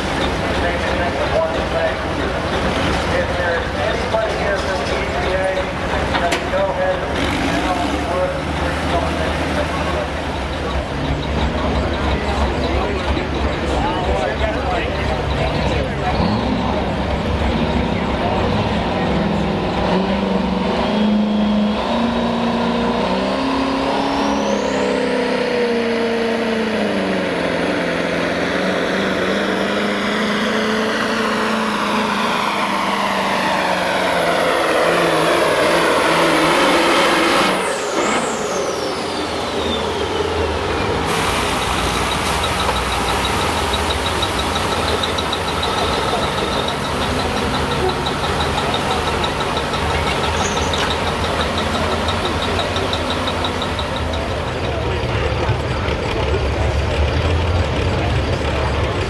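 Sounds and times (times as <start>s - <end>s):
diesel truck engine: 0.0s - 59.0s.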